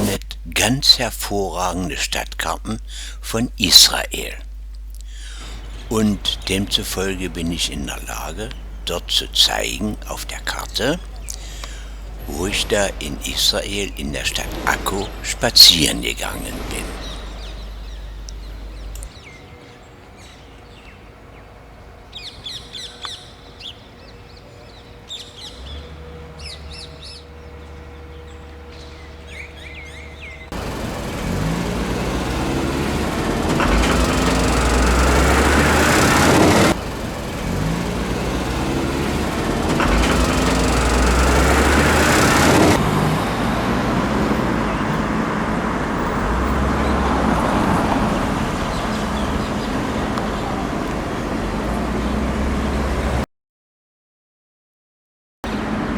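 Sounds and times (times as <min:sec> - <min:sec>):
birds chirping: 0:00.0 - 0:53.2
vehicles passing in street traffic: 0:00.0 - 0:53.3, 0:55.4 - 0:55.9.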